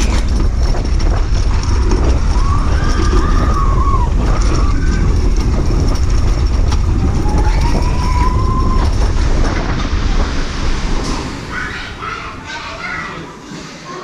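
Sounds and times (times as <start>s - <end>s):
roller coaster wheels rumbling: 0.0s - 14.0s.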